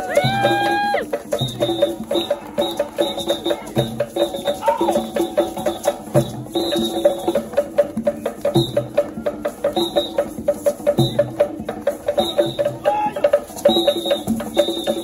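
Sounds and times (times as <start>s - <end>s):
hand drums in fast rhythm: 0.0s - 15.0s.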